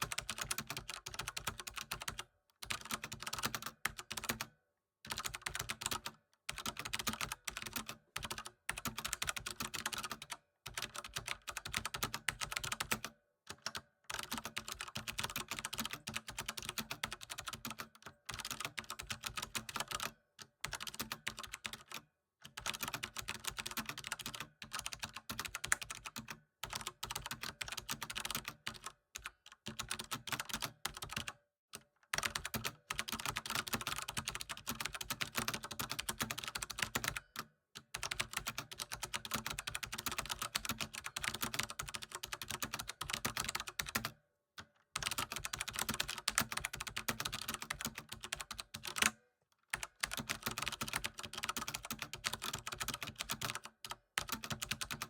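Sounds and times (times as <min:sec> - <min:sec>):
keyboard typing: 0:00.0 - 0:04.5, 0:05.1 - 0:22.0, 0:22.6 - 0:31.3, 0:32.1 - 0:37.2, 0:38.0 - 0:44.1, 0:45.0 - 0:55.0.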